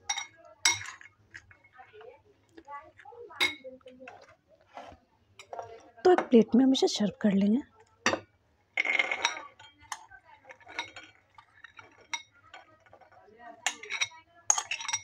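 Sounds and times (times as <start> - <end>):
spoon clinking and scraping bowl: 0.0 - 15.0.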